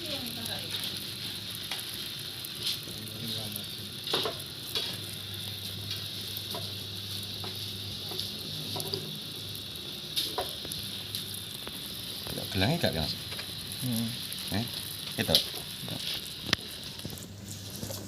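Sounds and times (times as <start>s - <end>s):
water spraying hiss: 0.0s - 18.0s.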